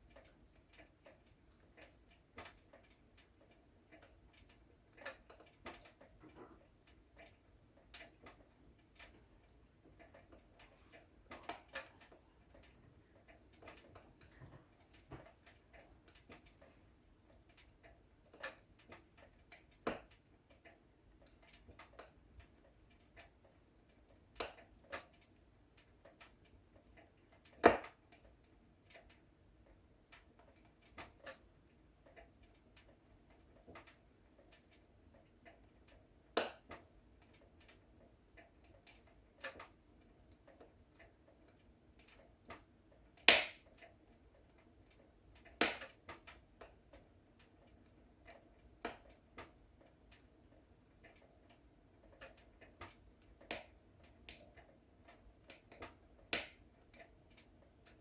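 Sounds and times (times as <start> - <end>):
faint steady hiss: 0.0 - 58.0
fire crackling and popping: 0.2 - 29.3, 30.1 - 37.9, 38.5 - 43.9, 44.5 - 49.5, 55.1 - 56.6.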